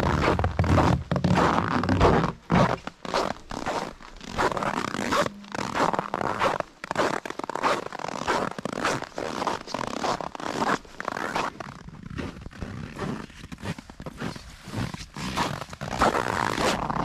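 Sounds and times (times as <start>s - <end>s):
footsteps crunching on snow: 0.0s - 17.0s.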